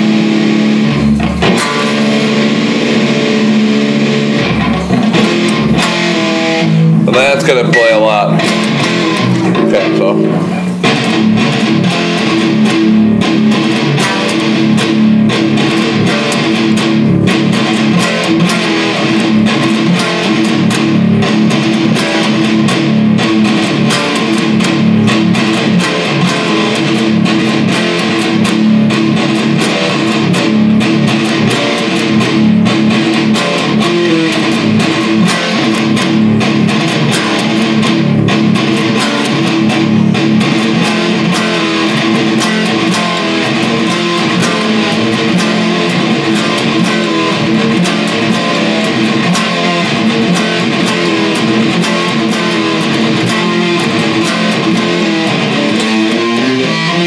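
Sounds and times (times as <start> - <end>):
electric guitar chord riff: 0.0 - 57.0.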